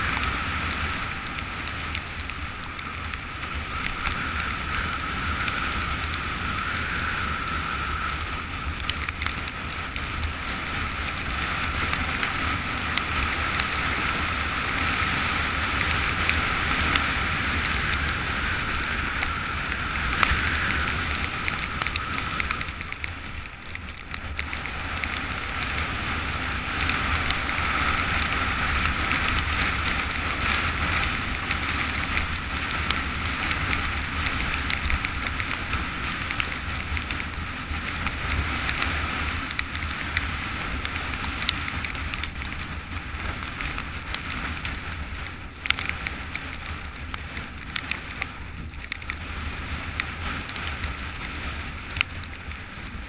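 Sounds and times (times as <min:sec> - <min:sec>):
skis sliding over snow: 0:00.0 - 0:53.0
wind rushing over microphone: 0:00.0 - 0:53.0.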